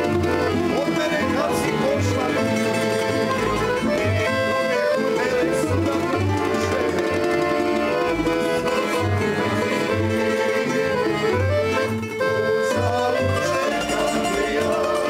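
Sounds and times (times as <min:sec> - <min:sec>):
accordion: 0:00.0 - 0:15.0
plucked string band playing: 0:00.0 - 0:15.0.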